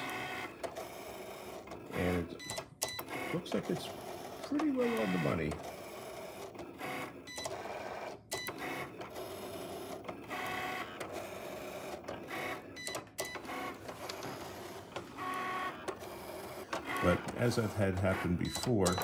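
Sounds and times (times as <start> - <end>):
cutting machine motors whirring: 0.0 - 19.0.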